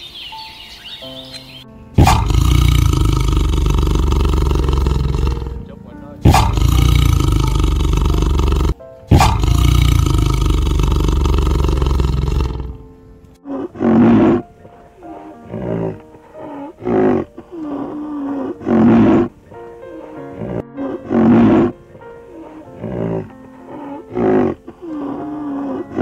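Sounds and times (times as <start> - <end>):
background music: 0.0 - 26.0
soft tiger calls: 2.0 - 12.8, 13.4 - 26.0
tiger roaring: 2.0 - 12.8, 13.4 - 26.0.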